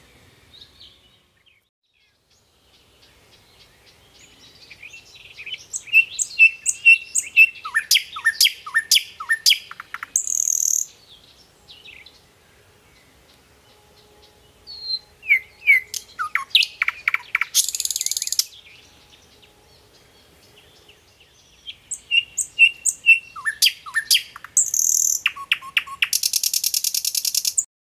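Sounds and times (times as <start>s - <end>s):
small birds chirping and trilling: 0.0s - 27.7s.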